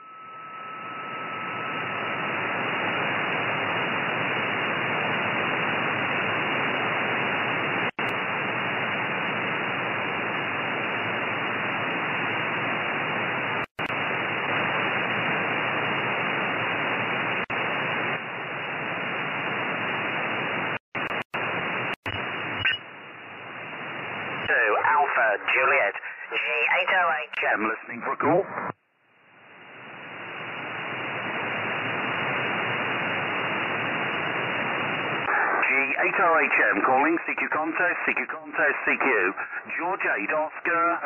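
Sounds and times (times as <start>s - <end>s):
radio receiver hiss: 0.0s - 28.8s, 29.4s - 41.0s.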